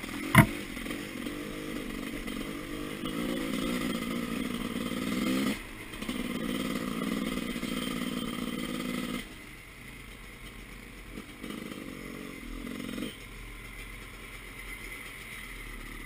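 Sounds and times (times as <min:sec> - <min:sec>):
off-road motorcycle engine revving: 0:00.0 - 0:16.0.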